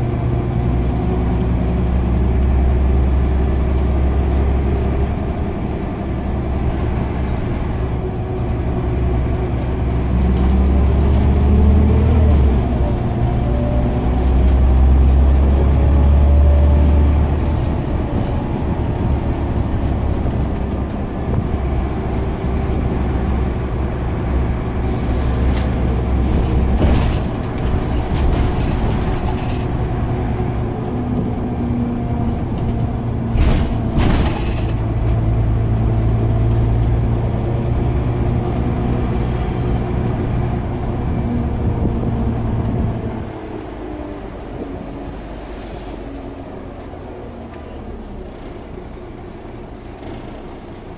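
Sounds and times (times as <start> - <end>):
bus diesel engine rumble: 0.0 - 50.9.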